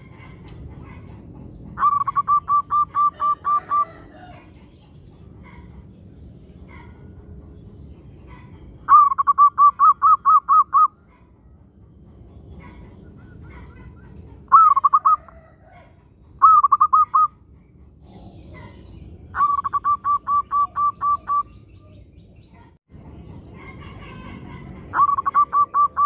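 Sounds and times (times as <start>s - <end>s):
dove cooing in staccato notes: 0.0s - 6.0s, 6.6s - 21.4s, 22.5s - 26.0s.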